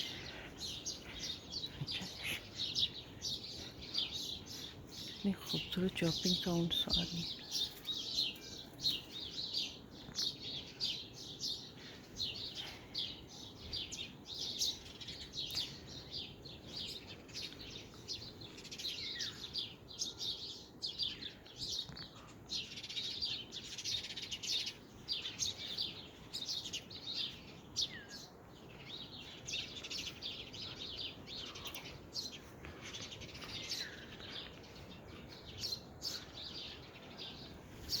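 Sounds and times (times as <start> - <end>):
birds chirping and twittering: 0.0 - 38.0.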